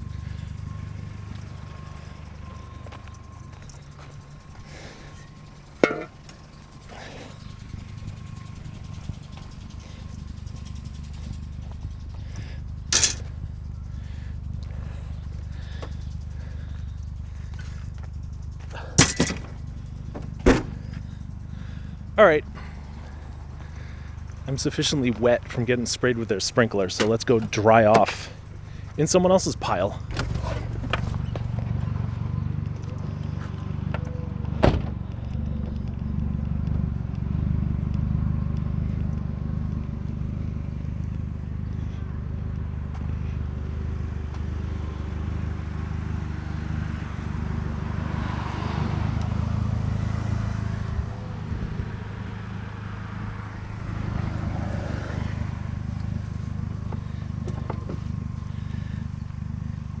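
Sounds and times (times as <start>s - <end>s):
road hiss: 0.0s - 33.9s, 37.2s - 60.0s
car engine droning: 0.0s - 60.0s.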